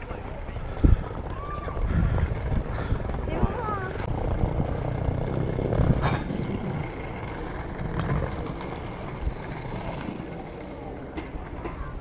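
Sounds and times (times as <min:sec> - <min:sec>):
skate wheels rolling on pavement: 0:00.0 - 0:12.0.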